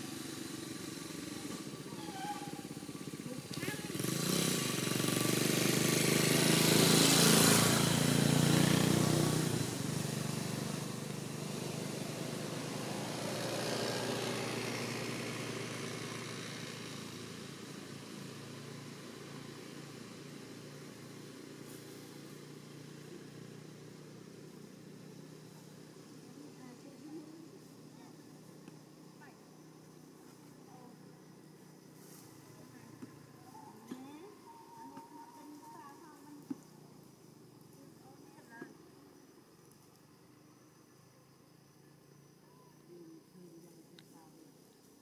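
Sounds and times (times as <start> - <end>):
vehicle engine passing by: 0.0 - 39.5.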